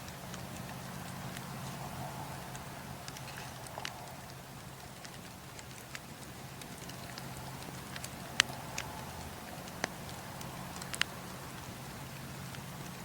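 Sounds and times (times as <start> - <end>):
low hiss and hum: 0.0 - 13.0
wood fire crackling: 0.0 - 13.0.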